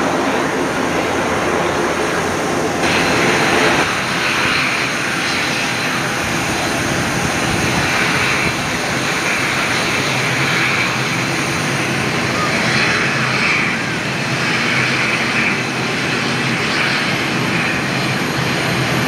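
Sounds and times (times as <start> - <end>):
turboprop engines whining: 0.0 - 19.0.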